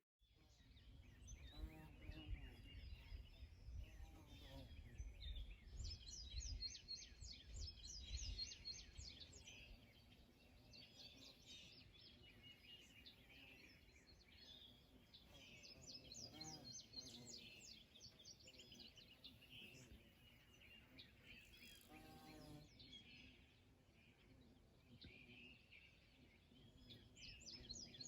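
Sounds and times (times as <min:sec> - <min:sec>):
faint songbirds chirping: 0:00.2 - 0:28.0.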